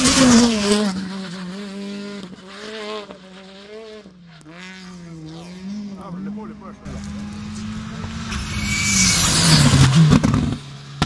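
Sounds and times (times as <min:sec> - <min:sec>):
rally car passing at speed: 0:00.0 - 0:11.0.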